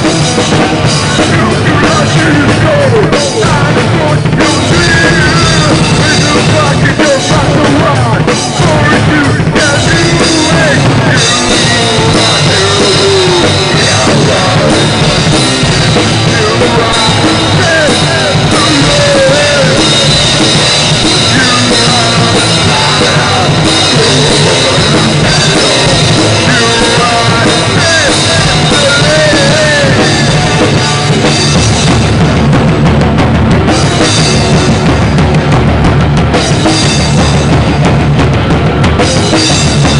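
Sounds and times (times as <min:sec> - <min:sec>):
bass drum: 0:00.0 - 0:39.9
drum kit played hard: 0:00.0 - 0:39.9
loud live metal band: 0:00.0 - 0:39.9.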